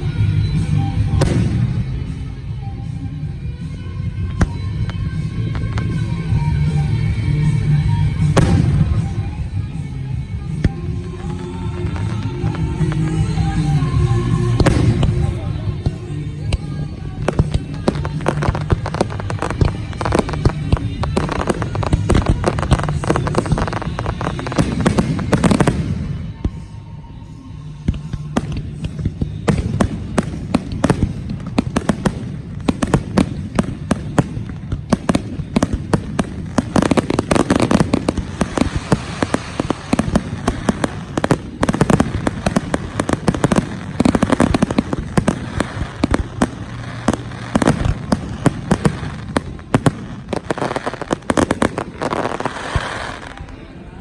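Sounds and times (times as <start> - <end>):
fireworks launching and bursting: 0.0 - 54.0.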